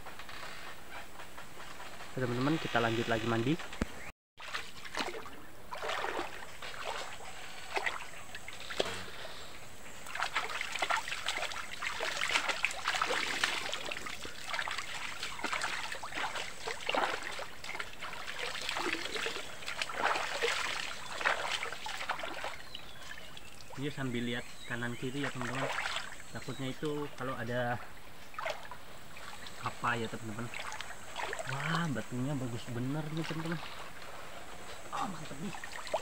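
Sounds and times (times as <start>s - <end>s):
river water splashing and trickling: 2.2s - 36.0s.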